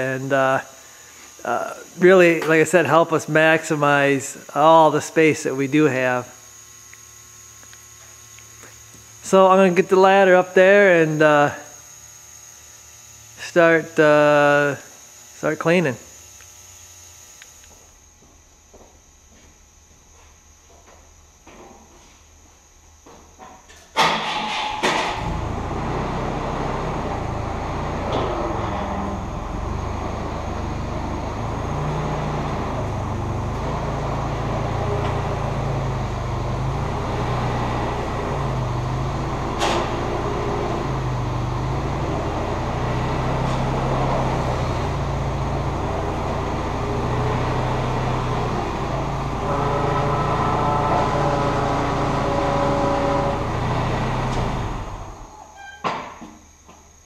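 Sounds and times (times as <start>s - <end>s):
forklift engine running: 0.0s - 14.7s, 24.0s - 55.6s
high whine: 0.0s - 20.4s, 24.0s - 55.8s.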